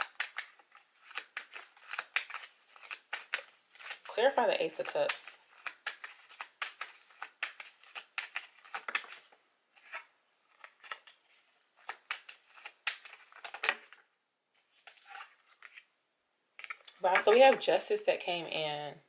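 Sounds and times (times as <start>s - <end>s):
cards being shuffled: 0.0s - 14.0s, 14.6s - 15.9s, 16.6s - 17.4s.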